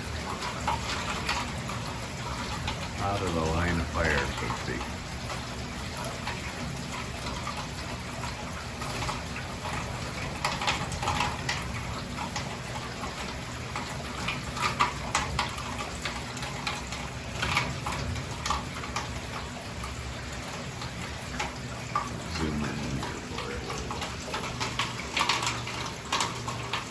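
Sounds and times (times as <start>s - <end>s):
heavy rain falling: 0.0s - 13.3s, 14.2s - 26.9s
water pouring: 0.0s - 26.9s
water splashes and drips: 0.0s - 26.9s.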